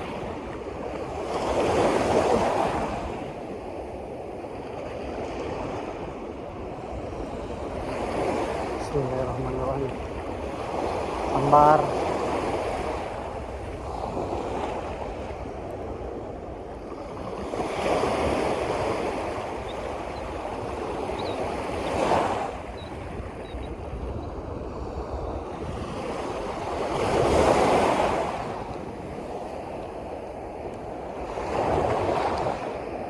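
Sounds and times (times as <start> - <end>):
waves washing in: 0.0 - 33.0
wind: 0.0 - 33.0.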